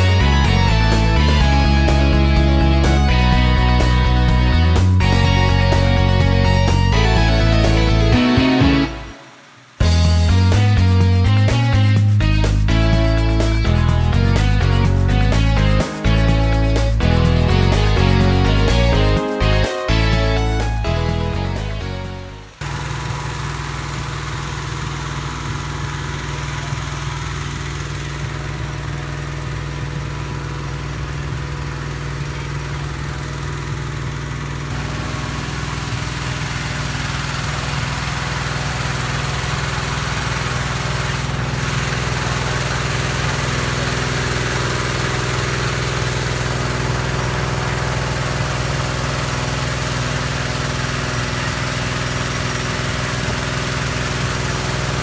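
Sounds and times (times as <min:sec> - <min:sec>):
small petrol engine running: 0:00.0 - 0:55.0.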